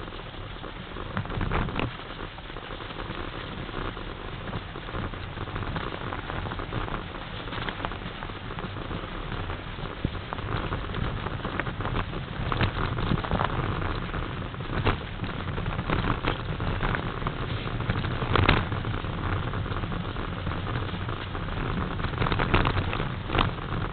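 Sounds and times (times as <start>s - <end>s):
bike knocking and rattling: 0.0s - 23.9s
bike tyres crackling on snow: 0.0s - 23.9s.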